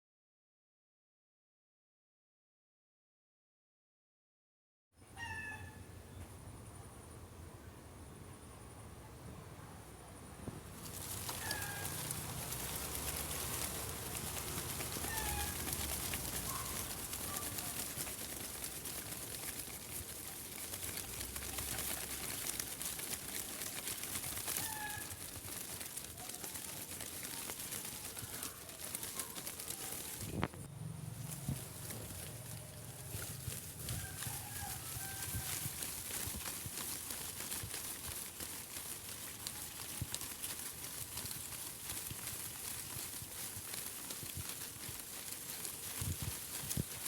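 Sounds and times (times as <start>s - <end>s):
steady outdoor hiss: 5.0s - 47.0s.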